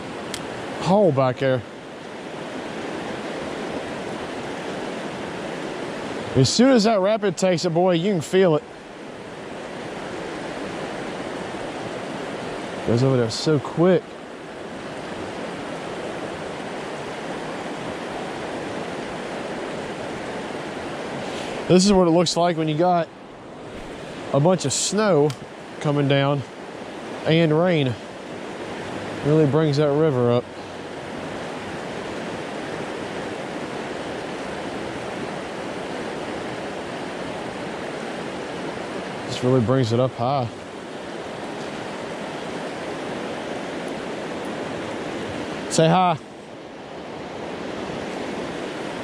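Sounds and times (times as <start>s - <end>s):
river rapids rushing: 0.0s - 49.0s.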